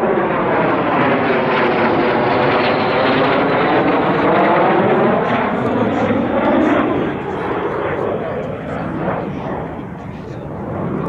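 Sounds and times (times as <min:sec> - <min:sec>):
aircraft engine roar: 0:00.0 - 0:11.0.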